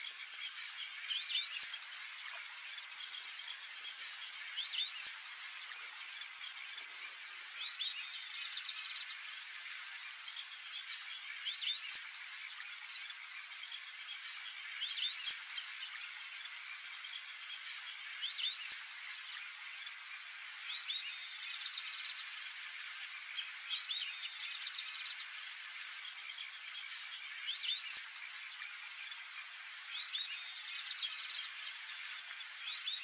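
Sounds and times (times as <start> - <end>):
insect hiss: 0.0 - 33.0.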